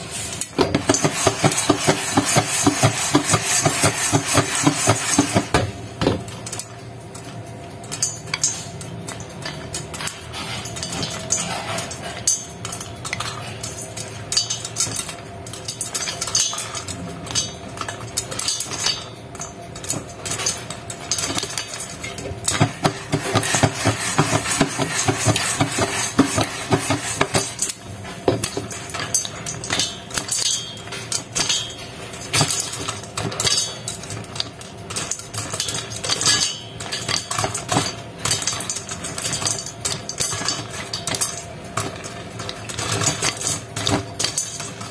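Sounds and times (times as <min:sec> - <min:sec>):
popcorn popping: 0:00.0 - 0:44.9
kernels clinking against lid: 0:00.1 - 0:44.9.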